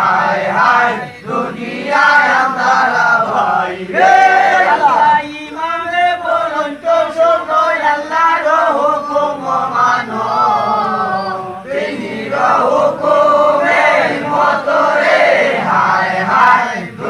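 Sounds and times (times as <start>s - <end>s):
men chanting a devotional song: 0.0s - 17.0s.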